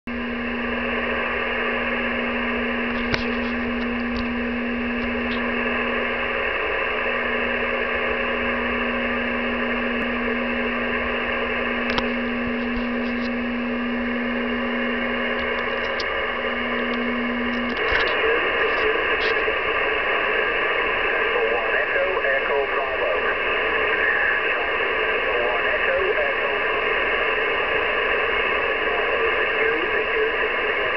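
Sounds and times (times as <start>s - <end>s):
steady low radio tone: 0.0s - 30.9s
radio band hiss: 0.1s - 30.9s
static clicks: 0.1s - 30.9s.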